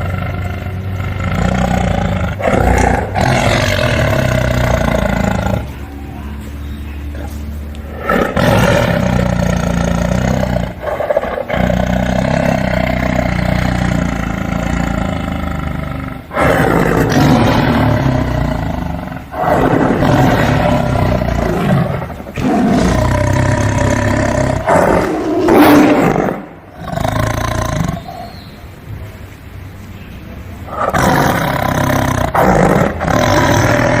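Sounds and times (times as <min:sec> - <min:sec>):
tiger roaring: 0:00.0 - 0:06.4, 0:07.0 - 0:28.4, 0:30.6 - 0:34.0.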